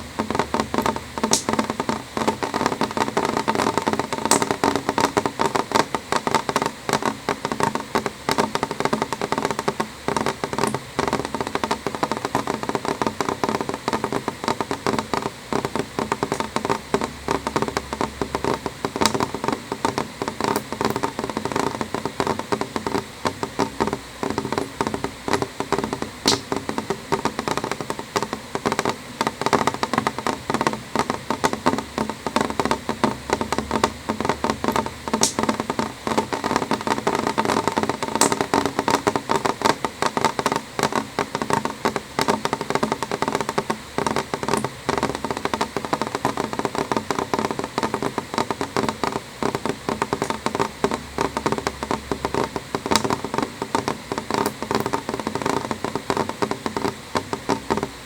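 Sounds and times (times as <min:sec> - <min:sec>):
rain tapping on window glass: 0:00.0 - 0:58.0.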